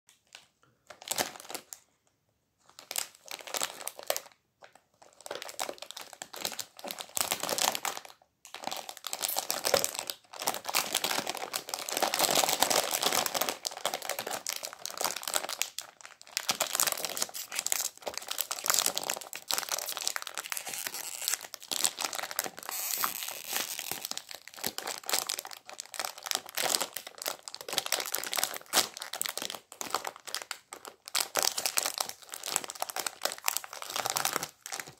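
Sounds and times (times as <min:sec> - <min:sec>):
plastic wrapper crinkling: 0:00.1 - 0:02.0, 0:02.6 - 0:34.9.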